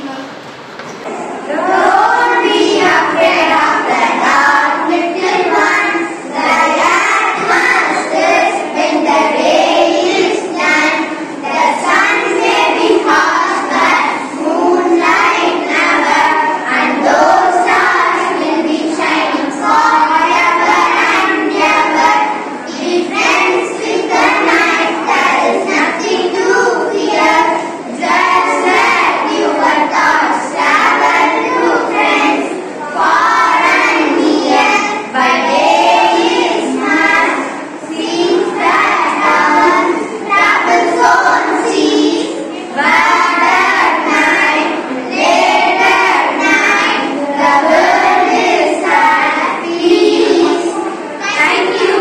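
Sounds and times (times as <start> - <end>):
children singing: 0.0 - 52.0.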